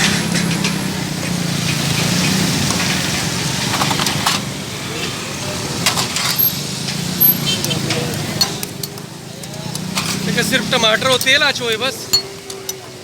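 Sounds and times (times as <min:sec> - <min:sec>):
traffic hum: 0:00.0 - 0:13.0.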